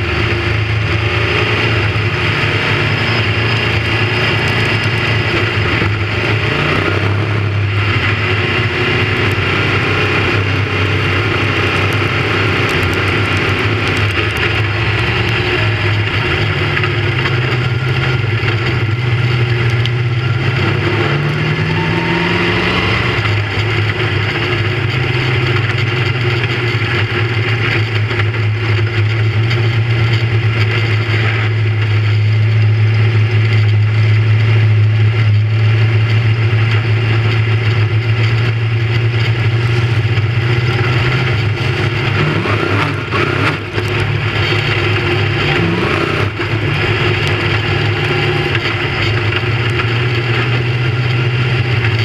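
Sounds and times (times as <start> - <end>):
race car engine running: 0.0 - 52.0.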